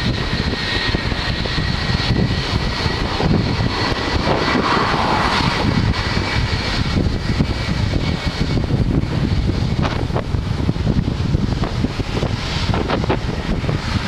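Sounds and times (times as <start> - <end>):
jet engines rumbling at takeoff: 0.0 - 14.0
wind buffeting microphone: 0.0 - 14.0.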